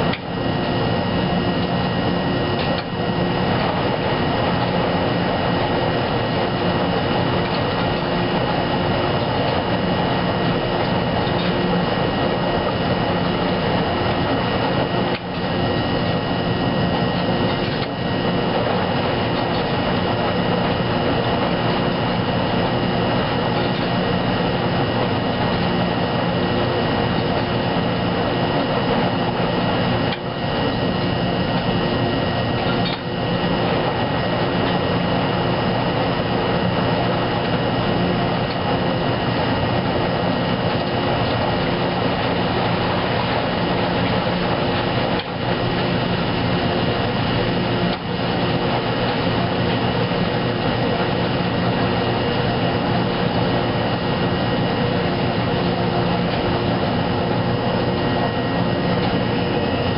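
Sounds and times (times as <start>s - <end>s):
washing machine drum running: 0.0s - 59.9s.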